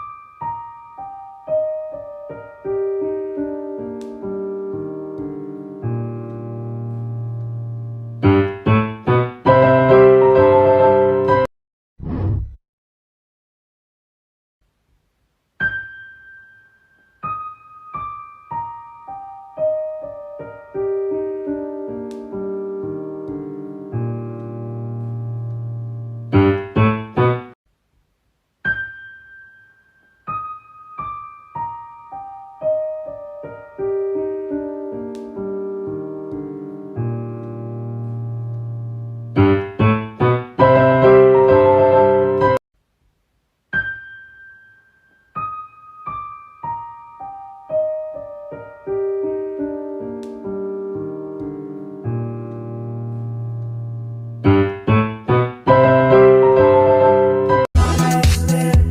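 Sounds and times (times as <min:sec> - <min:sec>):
piano music: 0:00.0 - 0:11.5, 0:15.6 - 0:27.6, 0:28.6 - 0:42.6, 0:43.7 - 0:58.9.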